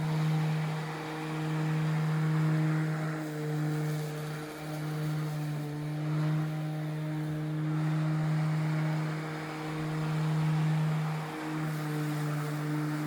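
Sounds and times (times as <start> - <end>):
electric lawn mower humming: 0.0 - 13.0.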